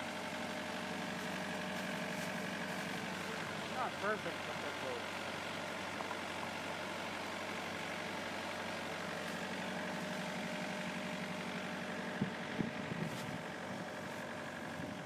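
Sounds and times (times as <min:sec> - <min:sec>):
sawmill engine idling: 0:00.0 - 0:15.0.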